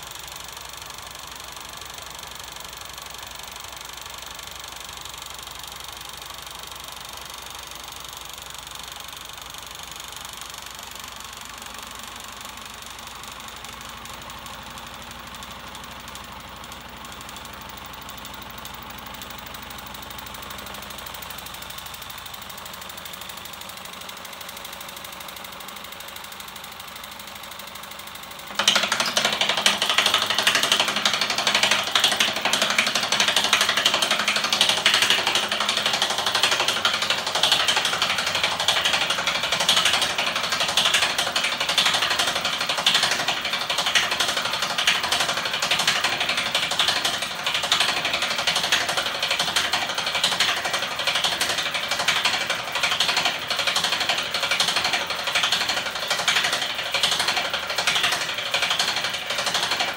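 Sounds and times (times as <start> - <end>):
motor mechanism rapid metal clatter: 0.0 - 59.9.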